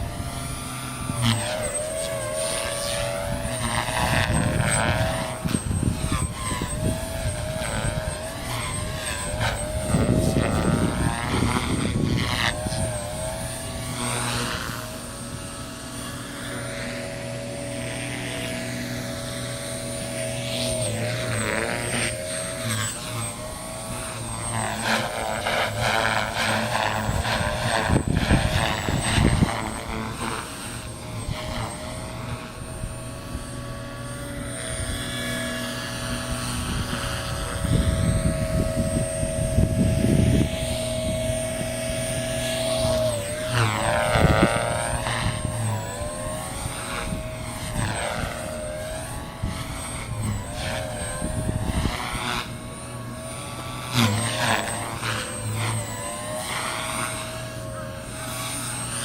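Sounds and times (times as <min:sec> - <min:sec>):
wind buffeting microphone: 0:00.0 - 0:16.3, 0:18.5 - 0:57.6
rc helicopter rotor whine: 0:00.0 - 0:59.0.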